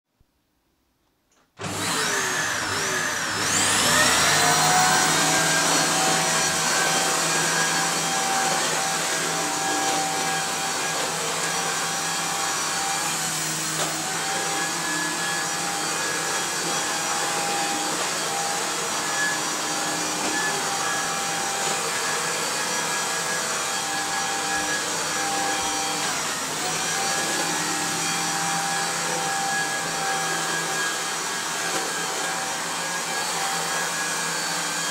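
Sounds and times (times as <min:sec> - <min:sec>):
vacuum cleaner motor whining: 0:01.6 - 0:34.9
vacuum tool pushed over hard floor: 0:01.6 - 0:34.9.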